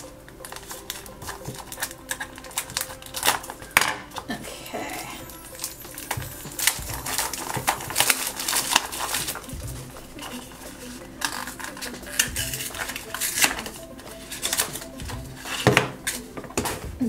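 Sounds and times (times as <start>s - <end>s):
plastic wrap crinkling: 0.0s - 17.0s
scissors snipping: 0.3s - 4.3s, 5.3s - 16.9s.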